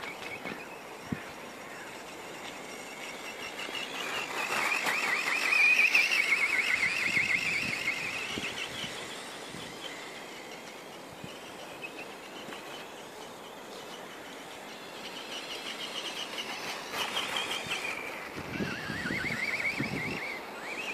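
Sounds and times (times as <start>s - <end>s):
high-pitched electric motor whine: 0.0s - 20.9s.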